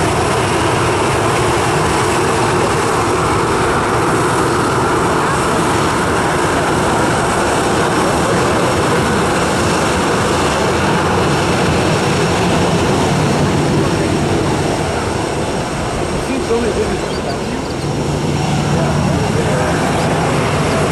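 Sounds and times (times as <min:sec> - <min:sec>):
jet engines running: 0:00.0 - 0:20.9.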